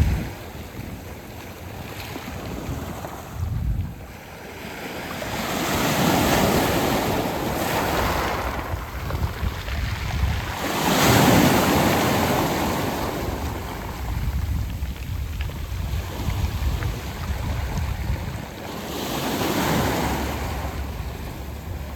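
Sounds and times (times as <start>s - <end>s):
sea waves breaking on pebble beach: 0.0s - 21.9s.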